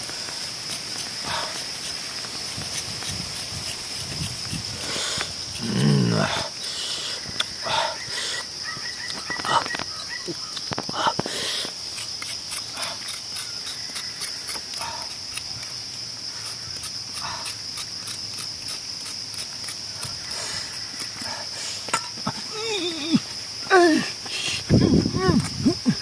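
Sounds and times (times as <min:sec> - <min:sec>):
pulsing insect chorus: 0:00.0 - 0:26.0.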